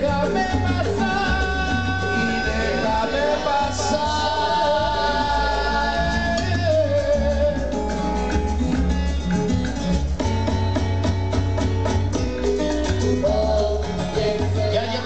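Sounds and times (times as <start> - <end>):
heavy bass: 0.0 - 15.0
latin dance music: 0.0 - 15.0
percussion beat: 0.0 - 15.0.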